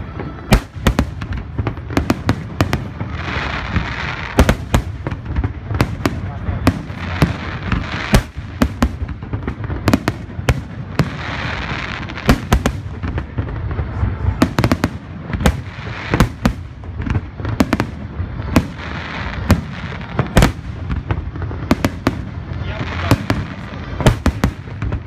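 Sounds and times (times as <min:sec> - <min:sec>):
continuous hiss and rumble: 0:00.0 - 0:25.0.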